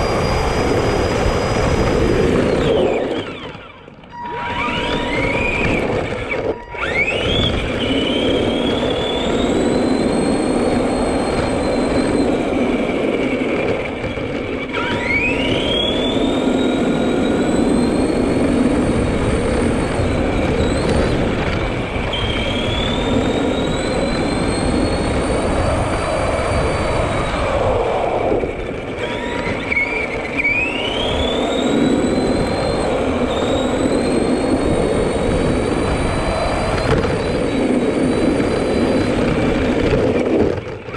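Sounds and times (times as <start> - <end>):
electric motor whining: 0.0 - 40.9
toy truck rumble: 0.0 - 40.9.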